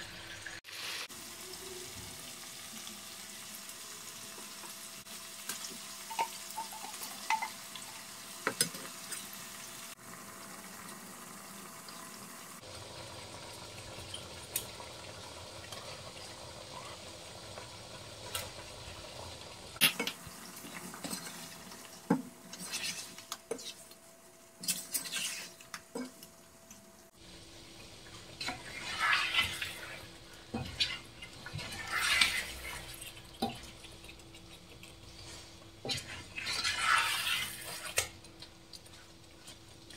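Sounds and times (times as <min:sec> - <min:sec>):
faint sizzle: 0:00.0 - 0:39.9.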